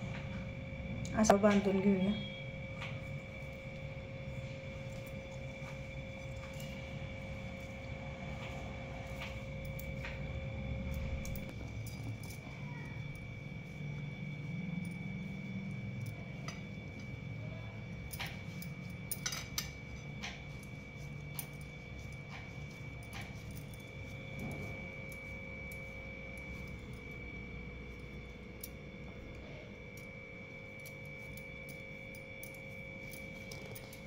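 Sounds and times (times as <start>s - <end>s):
background hum with high whine: 0.0s - 34.0s
light clicks and clinks: 2.6s - 34.0s.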